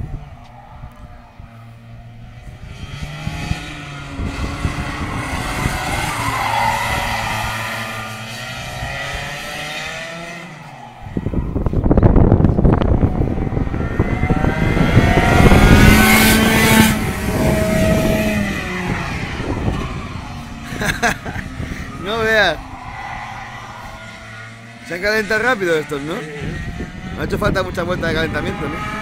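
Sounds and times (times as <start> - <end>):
wind rush on microphone: 0.0 - 10.0, 10.9 - 24.6, 26.4 - 29.0
kart engines buzzing: 0.0 - 29.0.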